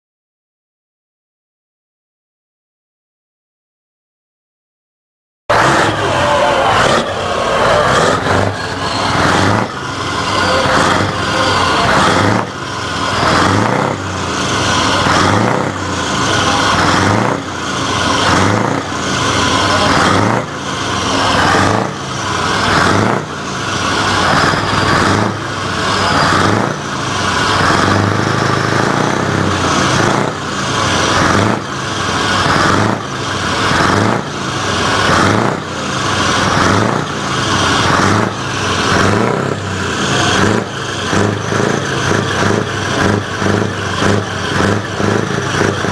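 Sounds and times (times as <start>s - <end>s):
diesel engine revving: 5.5s - 45.9s.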